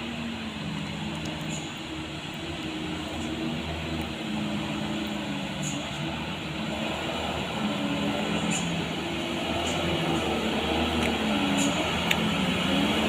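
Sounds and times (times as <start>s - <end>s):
rain hissing: 0.0s - 13.0s
truck engine running: 0.0s - 13.0s.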